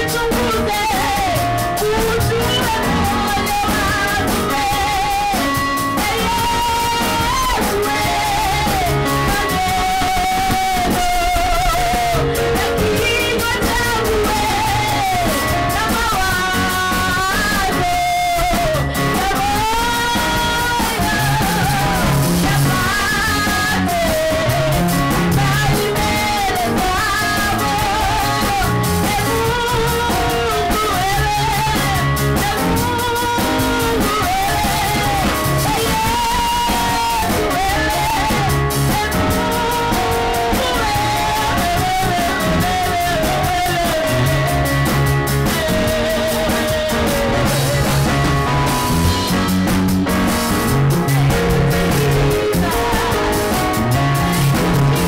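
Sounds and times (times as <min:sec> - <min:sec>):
woman singing: 0:00.0 - 0:49.5, 0:50.5 - 0:55.0
drum kit: 0:00.0 - 0:55.0
electric bass guitar: 0:00.0 - 0:55.0
keyboard: 0:00.0 - 0:55.0.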